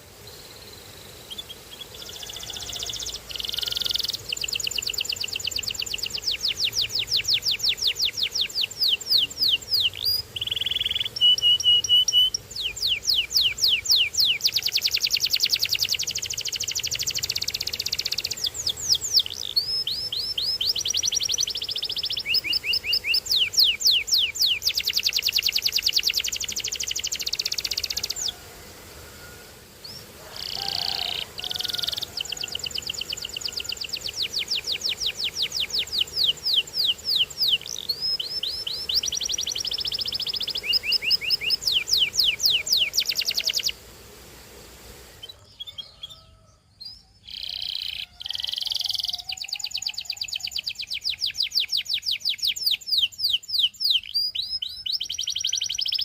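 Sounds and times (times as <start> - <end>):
canary singing trills: 0.0 - 28.4, 29.2 - 43.8, 45.2 - 56.0.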